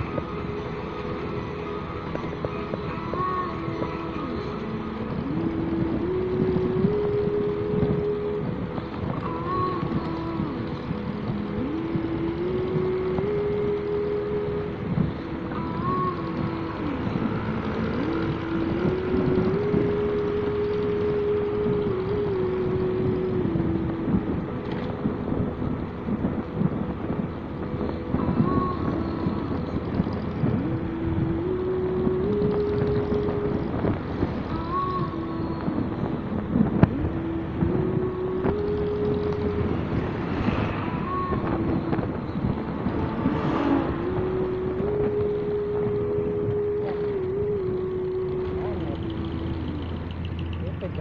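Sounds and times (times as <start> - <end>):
wind rushing over microphone: 0.0 - 50.6
motorcycle engine hum: 0.0 - 51.0.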